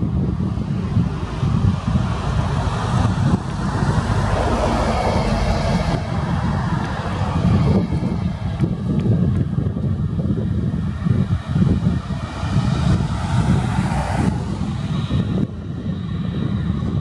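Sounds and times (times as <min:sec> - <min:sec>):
faint high engine whine: 0:00.0 - 0:17.0
jet engines low rumble: 0:00.0 - 0:17.0.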